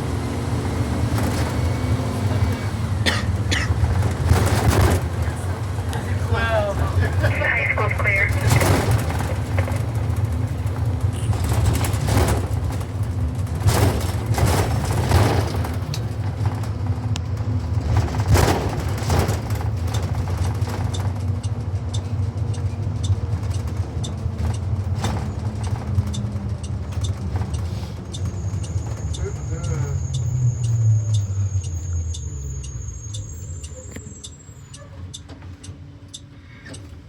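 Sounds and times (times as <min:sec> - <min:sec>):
bus body rattling and knocking: 0:00.0 - 0:31.4
bus engine and road rumble: 0:00.0 - 0:37.0.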